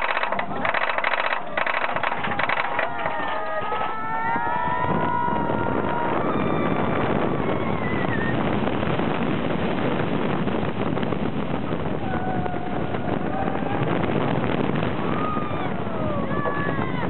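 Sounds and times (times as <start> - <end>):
roller coaster wheels rumbling: 0.0 - 17.0
wind rushing over microphone: 0.0 - 17.0.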